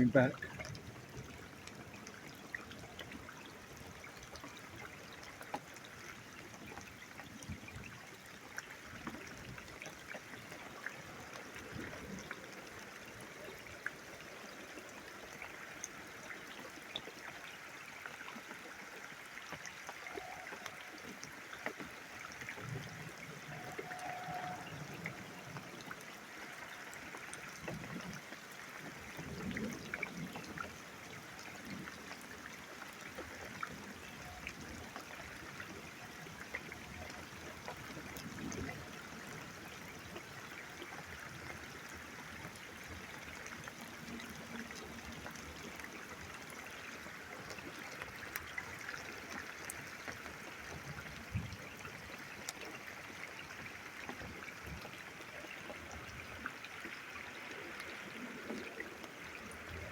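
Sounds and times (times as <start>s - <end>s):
rain falling steadily: 0.0s - 59.9s
water trickling: 0.0s - 59.9s.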